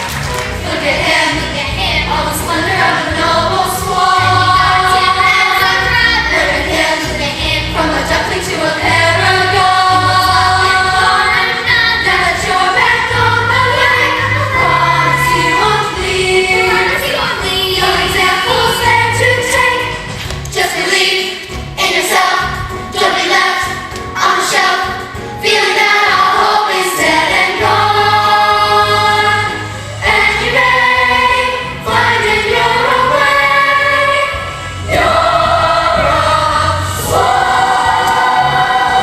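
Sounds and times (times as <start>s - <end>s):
backing music with bass line: 0.0s - 39.0s
group of young people singing: 0.0s - 39.0s.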